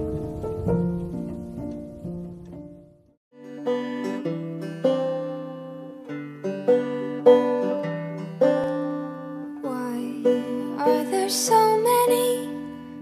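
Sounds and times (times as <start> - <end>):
plucked string instrumental music: 0.0 - 13.0.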